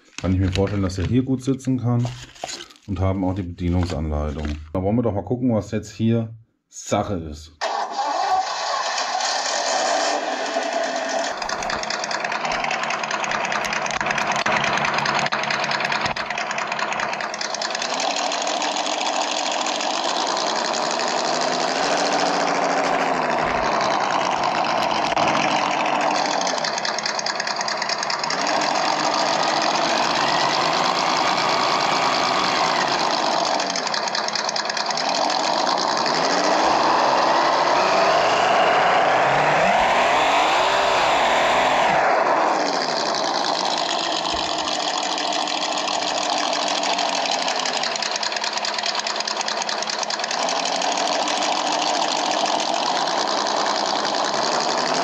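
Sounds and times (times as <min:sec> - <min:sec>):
simulated engine revving: 0:07.6 - 0:55.0.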